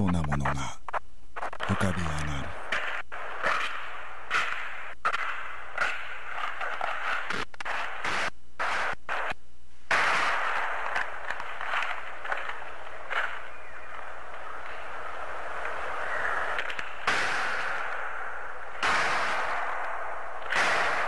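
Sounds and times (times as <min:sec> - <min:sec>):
faint low hum: 0:00.0 - 0:18.8
tape hiss and crackle: 0:00.0 - 0:21.0.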